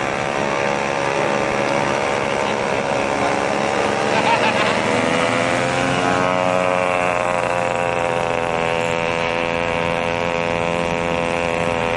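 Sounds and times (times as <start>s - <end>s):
small gasoline engines passing: 0.0s - 11.9s.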